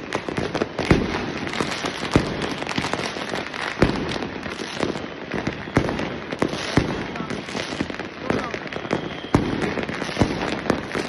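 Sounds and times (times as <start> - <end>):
firecrackers crackling: 0.0 - 11.0
sharp firework bangs: 0.0 - 11.0.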